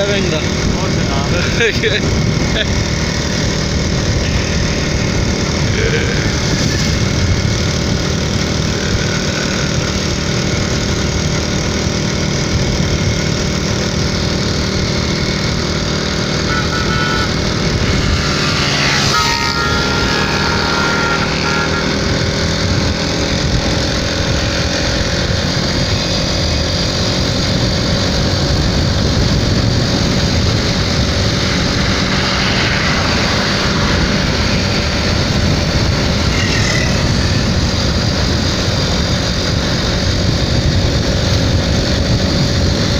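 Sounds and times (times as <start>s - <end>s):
motorcycle engine running: 0.0s - 42.9s
wind and road rush: 0.0s - 42.9s.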